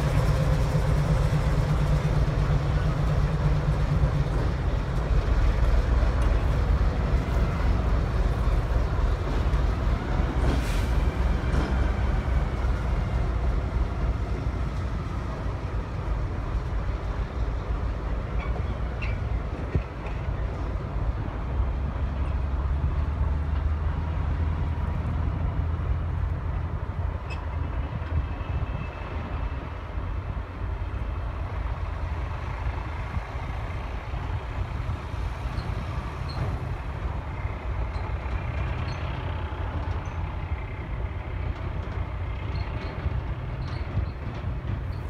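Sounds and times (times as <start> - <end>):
diesel engine rumble: 0.0 - 45.0.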